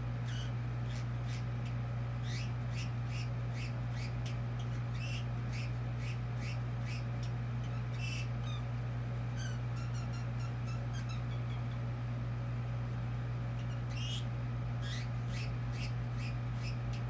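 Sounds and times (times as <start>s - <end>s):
steady low hum: 0.0s - 17.0s
caged bird chirping: 0.2s - 17.0s.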